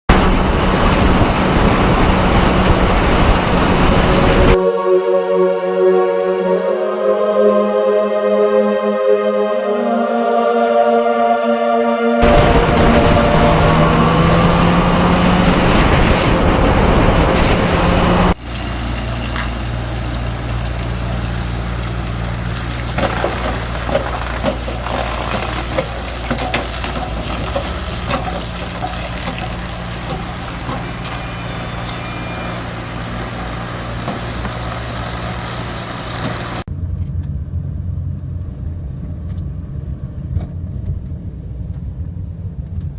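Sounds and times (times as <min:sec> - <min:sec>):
vehicle engine hum: 0:00.1 - 0:04.6, 0:12.2 - 0:42.9
road noise: 0:00.1 - 0:04.7, 0:11.8 - 0:42.9.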